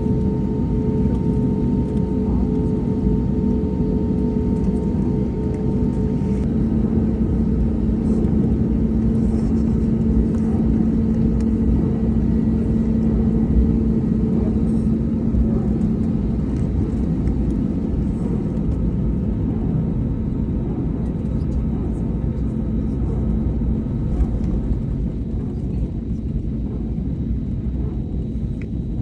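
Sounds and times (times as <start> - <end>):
jet airliner rumbling: 0.0 - 29.0
steady hum: 0.0 - 29.0.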